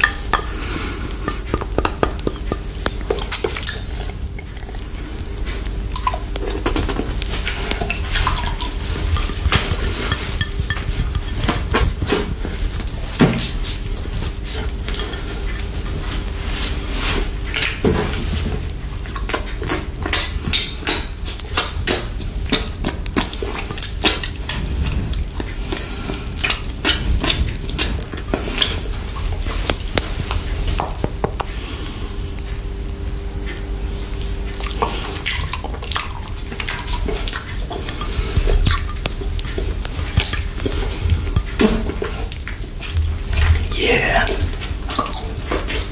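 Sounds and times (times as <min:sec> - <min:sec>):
wet licking and sucking: 0:00.0 - 0:45.9.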